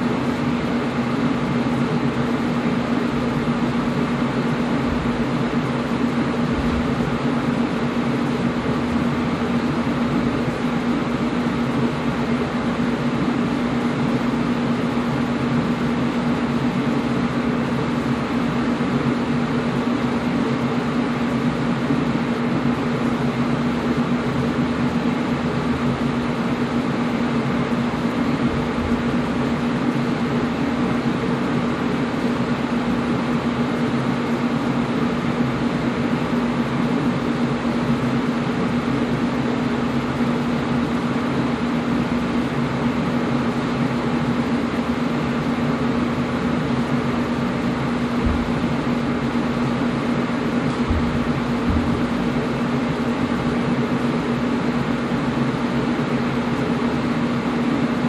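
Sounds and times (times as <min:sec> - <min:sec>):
air conditioner rushing air: 0:00.0 - 0:58.0
constant hum: 0:00.0 - 0:58.0.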